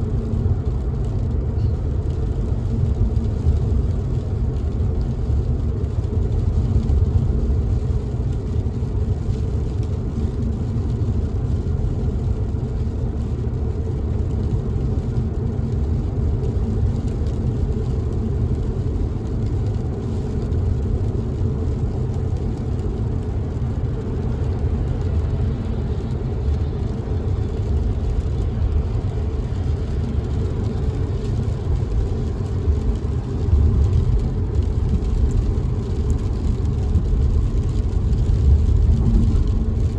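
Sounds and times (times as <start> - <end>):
car driving on wet road: 0.0 - 39.9
rain on car windows: 0.0 - 39.9.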